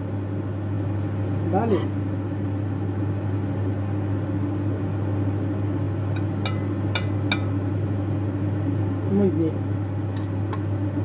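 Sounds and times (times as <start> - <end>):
appliance hum: 0.0 - 11.0.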